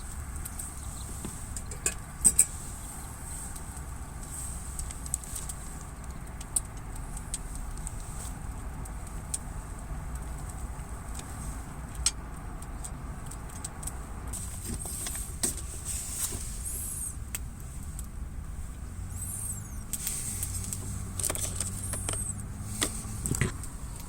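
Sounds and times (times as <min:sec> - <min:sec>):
campfire crackling and popping: 0:00.0 - 0:15.5, 0:16.6 - 0:24.0.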